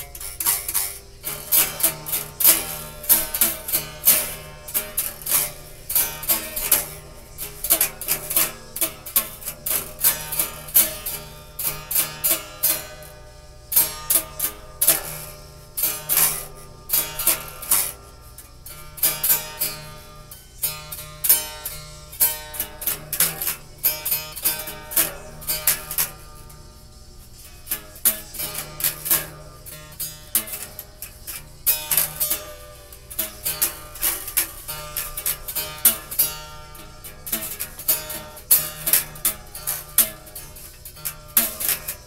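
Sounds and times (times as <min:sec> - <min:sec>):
acoustic guitar plucked: 0:00.0 - 0:42.0.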